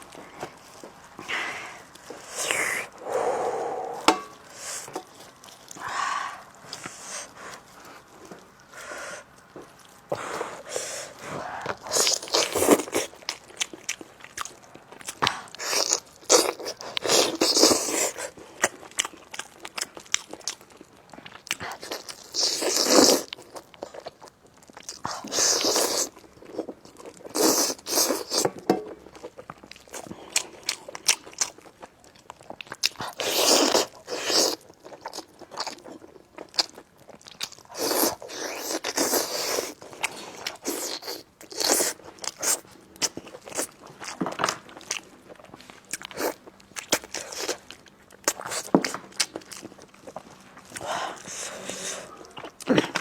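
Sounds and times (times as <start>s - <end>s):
biting and chewing food: 0.0s - 53.0s.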